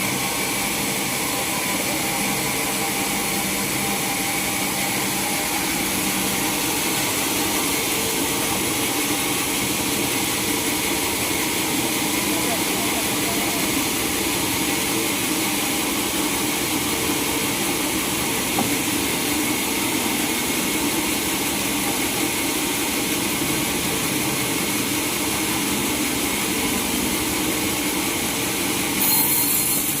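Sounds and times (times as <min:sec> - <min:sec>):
sawmill machinery hum and hiss: 0:00.0 - 0:30.0.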